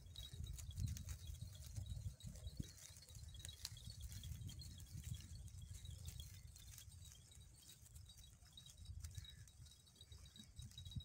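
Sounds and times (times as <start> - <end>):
goats cropping grass: 0.0 - 11.0.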